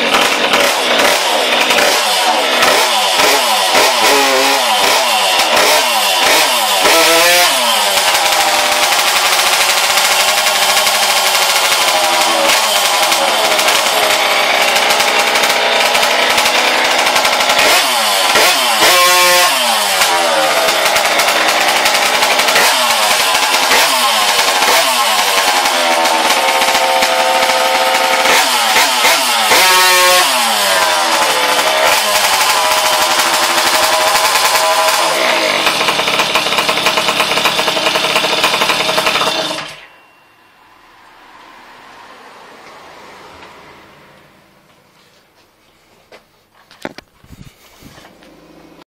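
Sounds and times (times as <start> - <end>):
moped engine revving: 0.0 - 40.0, 40.9 - 45.4, 46.8 - 48.9.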